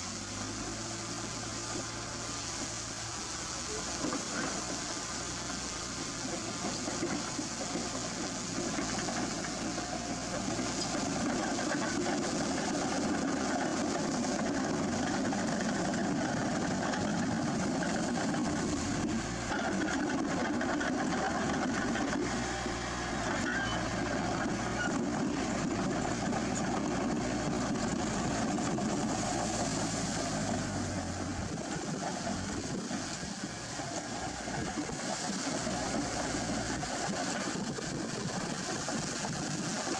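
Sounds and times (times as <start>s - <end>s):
heavy machine engine rumbling: 0.0s - 39.9s.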